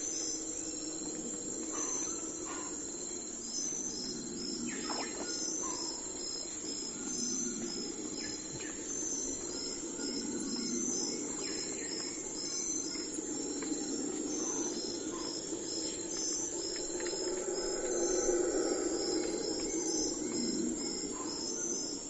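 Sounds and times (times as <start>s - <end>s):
insects chirping in pulses: 0.0s - 22.0s.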